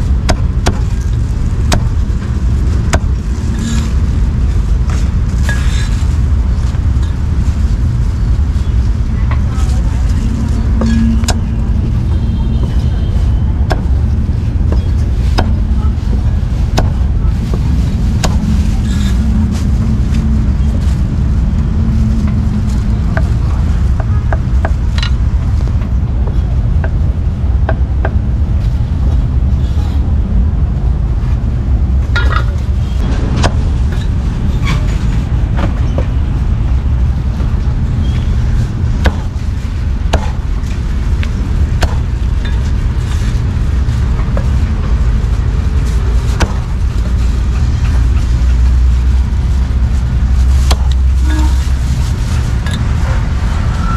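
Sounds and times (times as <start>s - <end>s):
street traffic and motorbikes: 0.0s - 53.9s.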